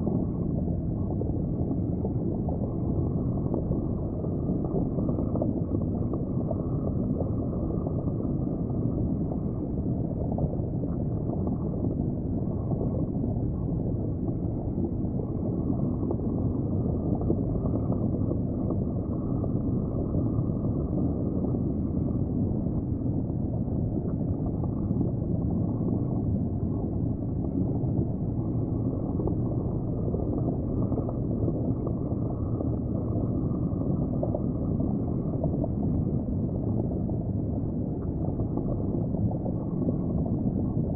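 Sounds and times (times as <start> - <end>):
underwater rumble and gurgle: 0.0 - 40.9.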